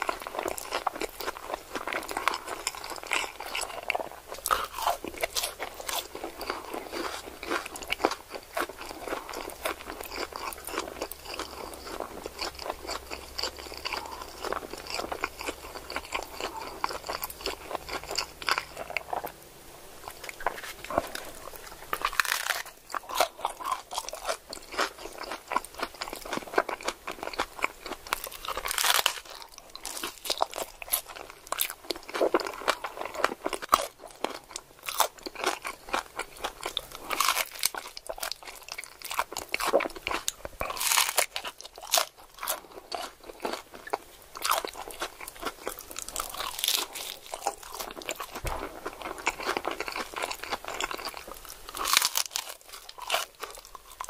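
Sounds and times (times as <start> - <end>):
crunching and chewing food: 0.0 - 54.0.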